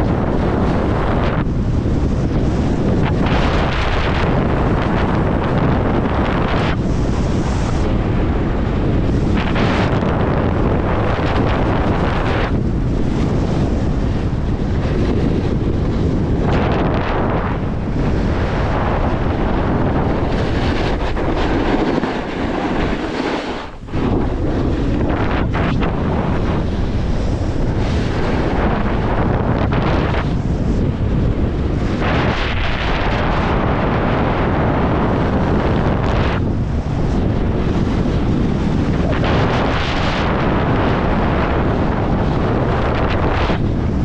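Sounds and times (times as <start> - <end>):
wind buffeting microphone: 0.0 - 44.0
snowboard scraping on snow: 2.0 - 44.0.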